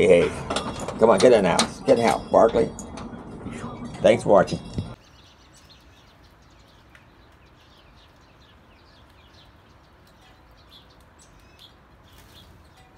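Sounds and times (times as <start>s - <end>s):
small birds chirping: 1.0s - 12.9s.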